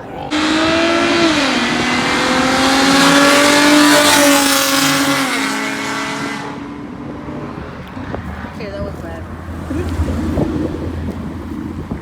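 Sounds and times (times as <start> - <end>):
car engine accelerating hard: 0.3 - 12.0.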